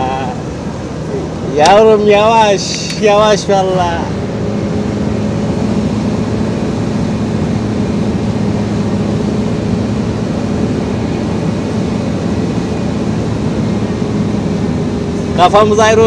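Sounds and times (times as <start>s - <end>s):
diesel truck engine drone: 0.0s - 16.0s.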